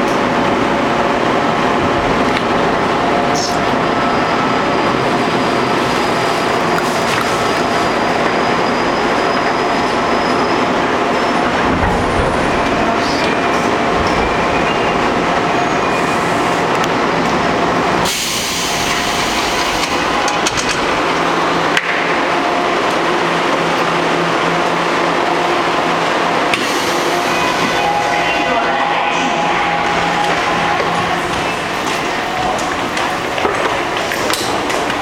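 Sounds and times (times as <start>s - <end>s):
subway train rumble: 0.0s - 35.0s.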